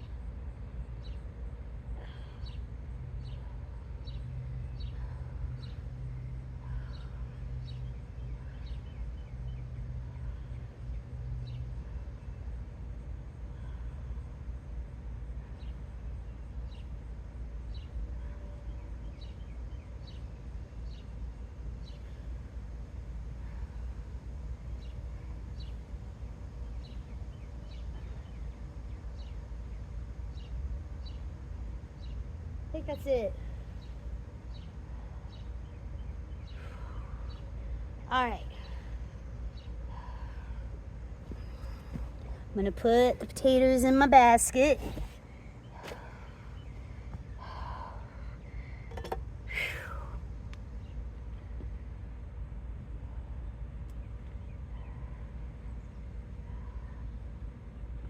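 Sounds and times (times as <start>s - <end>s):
low hum and rumble: 0.0s - 58.0s.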